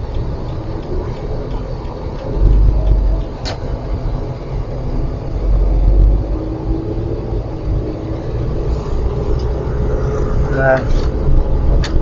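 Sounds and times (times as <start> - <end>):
car road rumble from inside: 0.0 - 12.0
faint engine hum: 0.0 - 12.0.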